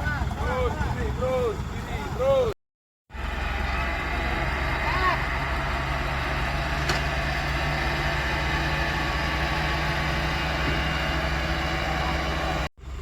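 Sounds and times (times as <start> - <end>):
heavy diesel engine running: 0.0 - 2.5, 3.1 - 13.0.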